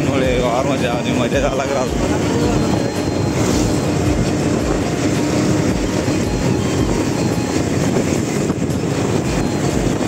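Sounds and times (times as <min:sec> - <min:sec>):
vehicle engine and tyre noise: 0:01.3 - 0:10.0.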